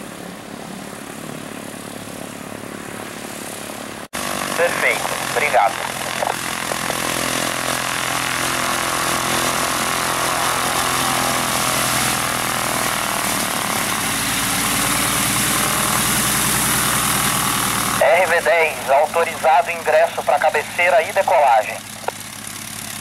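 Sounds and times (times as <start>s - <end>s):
piston-engine propeller drone: 0.0s - 23.0s.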